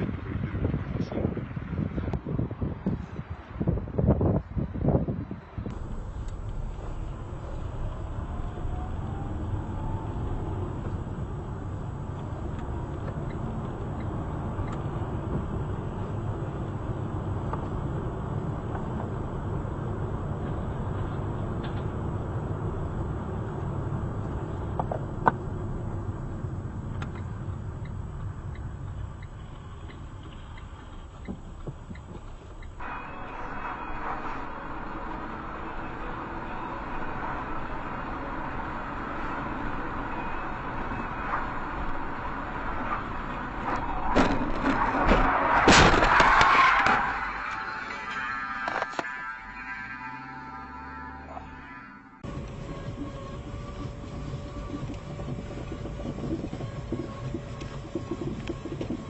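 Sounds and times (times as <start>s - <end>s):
car engine and road noise: 0.0s - 59.0s
hissy road noise: 0.0s - 59.0s.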